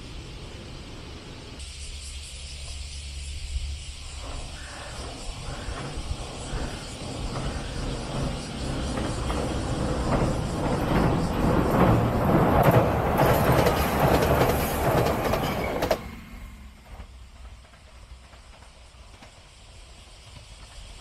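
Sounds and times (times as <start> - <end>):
train wheels clattering on bridge: 4.1 - 21.0.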